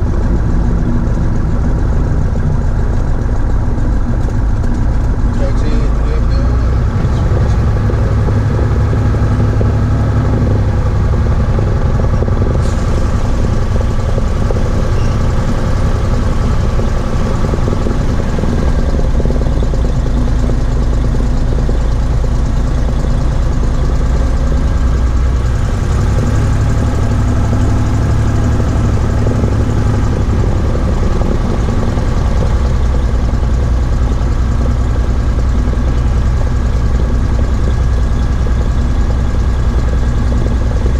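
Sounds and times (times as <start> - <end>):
airplane piston engine and propeller: 0.0 - 40.9.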